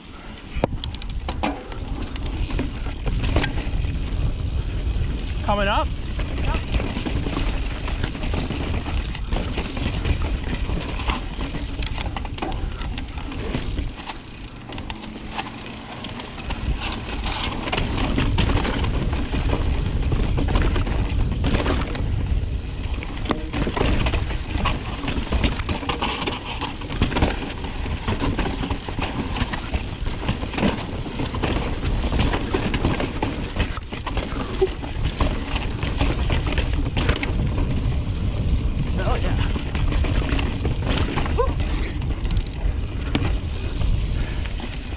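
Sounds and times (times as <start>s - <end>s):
bike tyres crunching on rock: 0.1s - 44.9s
wind rumble on microphone: 0.5s - 14.6s, 16.0s - 44.9s
bike clattering over rock: 0.8s - 44.9s.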